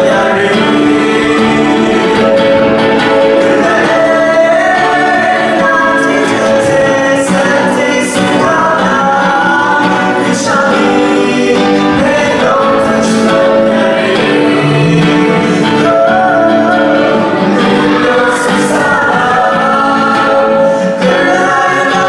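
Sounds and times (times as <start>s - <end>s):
acoustic guitar: 0.0s - 22.0s
group singing worship song: 0.0s - 22.0s.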